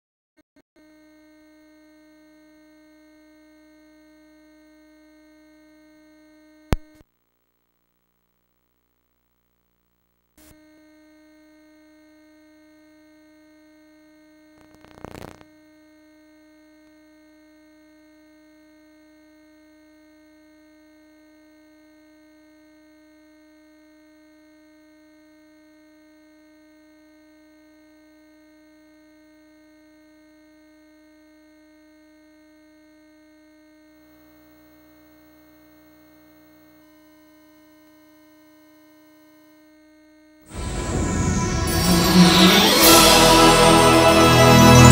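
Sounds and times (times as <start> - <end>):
electrical hum: 0.8 - 44.9
static crackle: 0.9 - 42.2.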